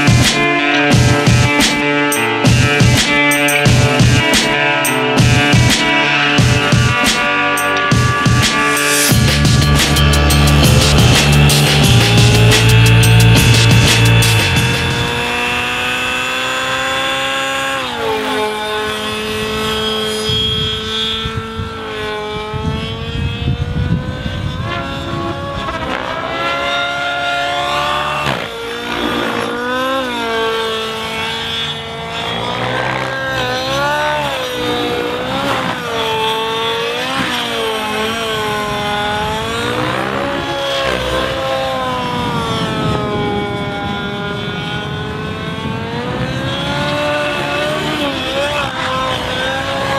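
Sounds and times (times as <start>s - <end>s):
rc helicopter engine and rotor: 0.0s - 49.9s.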